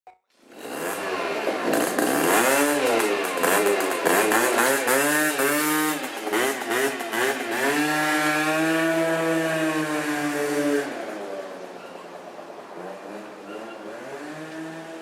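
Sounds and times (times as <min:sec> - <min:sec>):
two-stroke scooter engine revving: 0:00.4 - 0:15.0.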